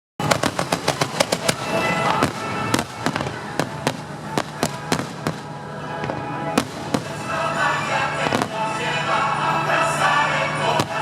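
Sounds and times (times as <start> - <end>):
firework bangs: 0.2 - 8.8, 10.8 - 11.0
music playing: 0.2 - 11.0.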